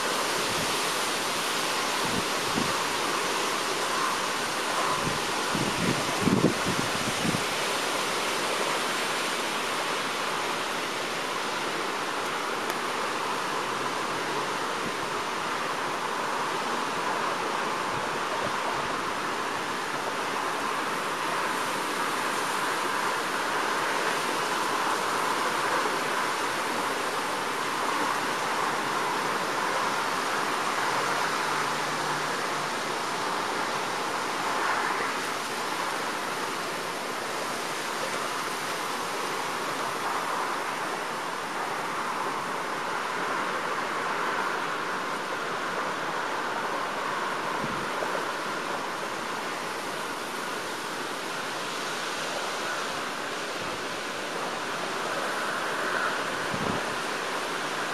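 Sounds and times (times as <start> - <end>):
storm wind rushing through trees: 0.0 - 57.9.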